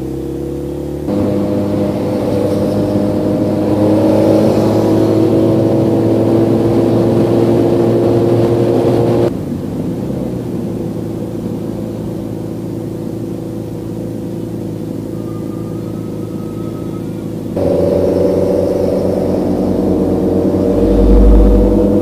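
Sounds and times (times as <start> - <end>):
motorcycle engine cruising: 0.0 - 9.3, 10.4 - 22.0.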